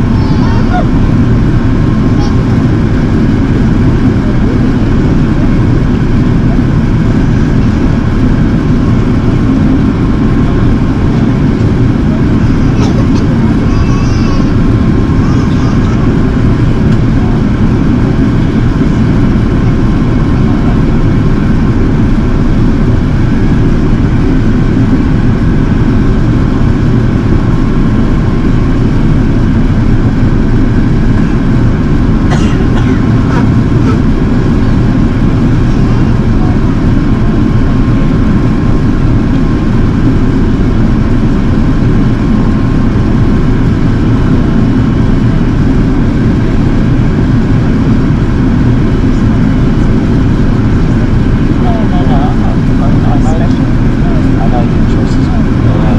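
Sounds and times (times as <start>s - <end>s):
airliner cabin engine rumble: 0.0s - 55.9s.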